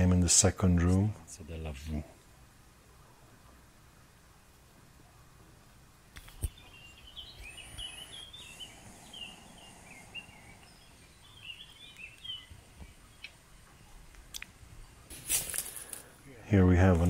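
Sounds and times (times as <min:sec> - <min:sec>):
small birds chirping: 0:00.9 - 0:17.0.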